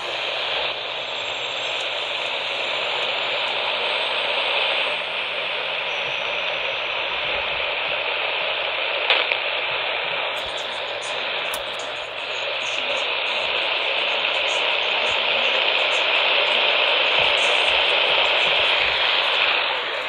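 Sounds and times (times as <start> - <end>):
radio crackle: 0.0 - 20.0
radio static hissing: 0.0 - 20.0.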